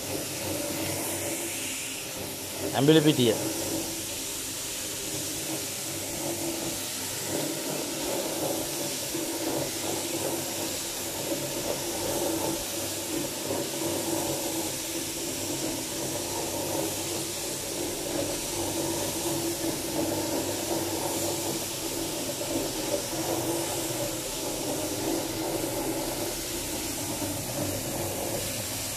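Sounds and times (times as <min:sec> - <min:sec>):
floor polishing machine running: 0:00.0 - 0:28.9.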